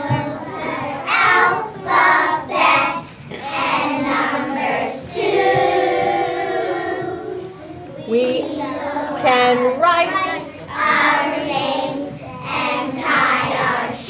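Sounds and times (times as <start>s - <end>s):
children singing in unison: 0.0s - 9.2s, 10.2s - 14.0s.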